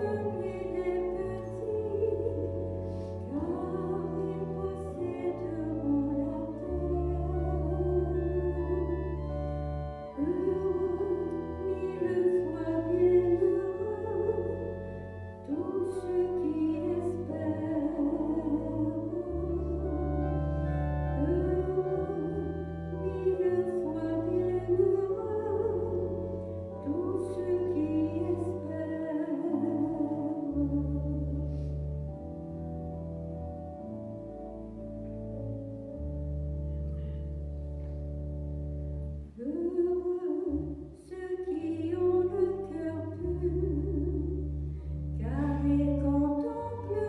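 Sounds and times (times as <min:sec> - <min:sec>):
solo voice singing a hymn: 0:00.0 - 0:31.6, 0:39.4 - 0:44.6, 0:45.2 - 0:47.0
sustained keyboard chords: 0:00.0 - 0:47.0.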